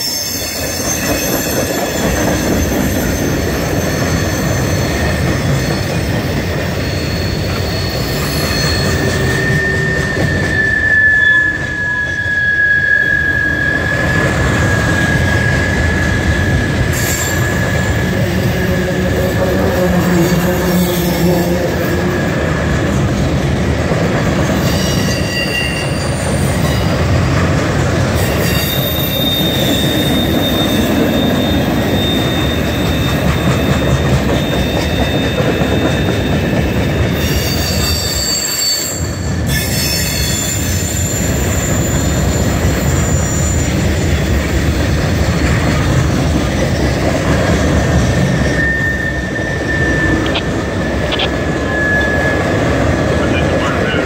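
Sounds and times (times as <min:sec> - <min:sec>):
high wheel squeals: 0:00.0 - 0:22.8, 0:24.4 - 0:27.3, 0:28.0 - 0:54.0
train wheels rumbling on rail: 0:00.0 - 0:54.0.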